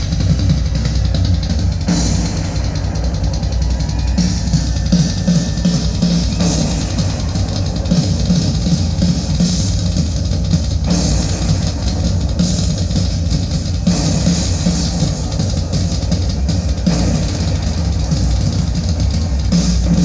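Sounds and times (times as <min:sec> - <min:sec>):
rock music through speaker: 0:00.0 - 0:20.0.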